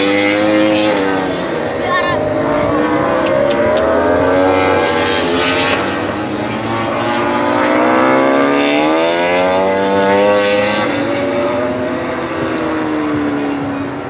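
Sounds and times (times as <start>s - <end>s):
racing motorcycle engines: 0.0s - 14.0s.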